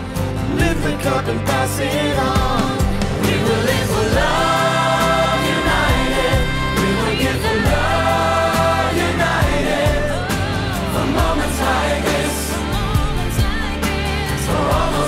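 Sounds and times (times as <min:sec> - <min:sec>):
band backing track: 0:00.0 - 0:15.0
group singing pop ballad: 0:00.0 - 0:15.0.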